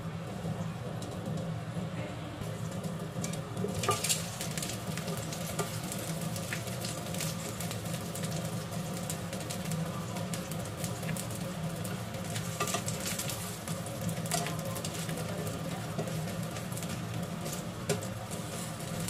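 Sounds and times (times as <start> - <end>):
steady low hum: 0.0 - 19.0
food sizzling in oil: 2.4 - 19.0.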